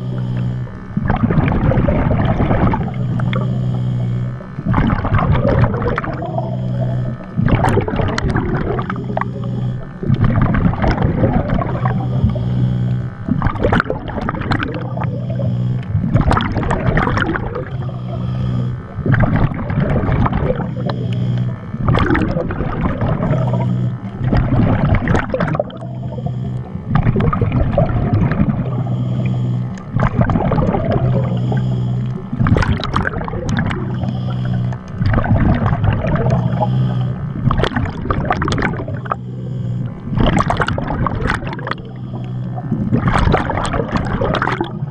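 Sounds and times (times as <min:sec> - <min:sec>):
bursts of breathing bubbles: 0:00.0 - 0:44.9
muffled underwater hum: 0:00.0 - 0:44.9.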